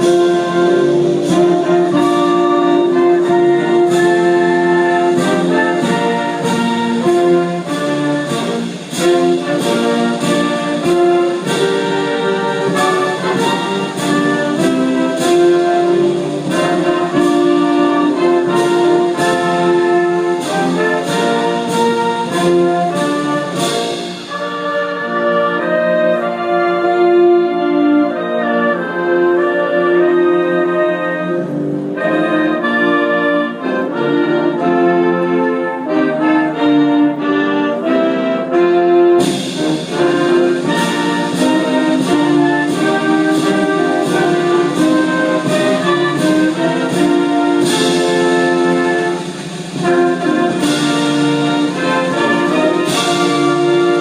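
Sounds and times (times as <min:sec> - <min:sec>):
drum and cymbal beat: 0:00.0 - 0:27.8, 0:34.1 - 0:54.0
trumpets and trombones playing: 0:00.0 - 0:54.0.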